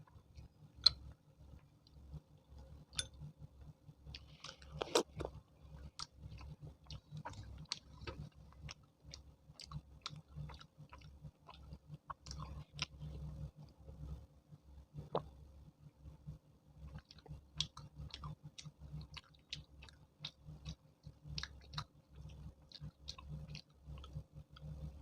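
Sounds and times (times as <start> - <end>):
person chewing food: 0.0 - 13.7, 16.8 - 25.0.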